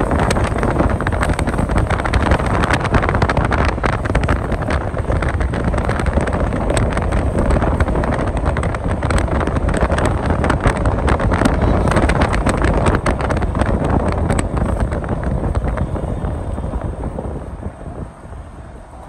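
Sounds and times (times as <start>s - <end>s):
tyre noise on wet road: 0.0s - 19.0s
wind buffeting crackle: 0.0s - 19.0s
wind rushing over microphone: 0.0s - 19.0s.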